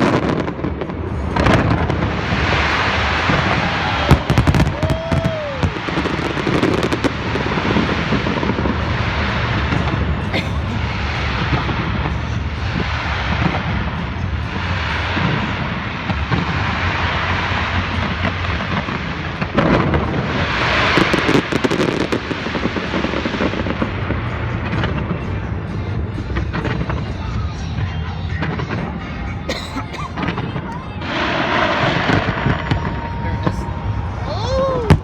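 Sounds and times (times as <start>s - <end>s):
fireworks booming: 0.0s - 35.0s
fireworks crackling: 0.0s - 35.0s.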